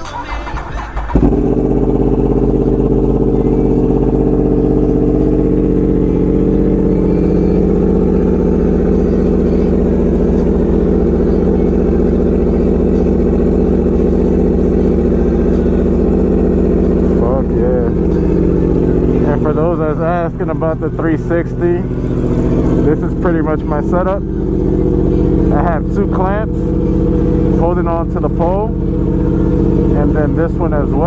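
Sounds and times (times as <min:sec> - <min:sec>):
motorcycle engine idling: 0:00.2 - 0:31.0.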